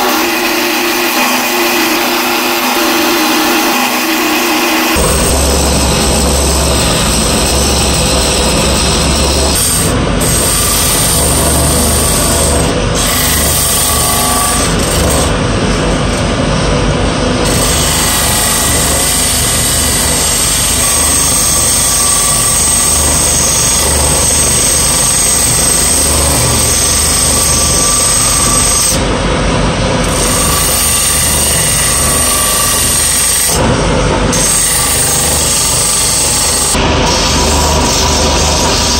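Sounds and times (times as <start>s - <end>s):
lathe motor hum: 0.0s - 38.9s.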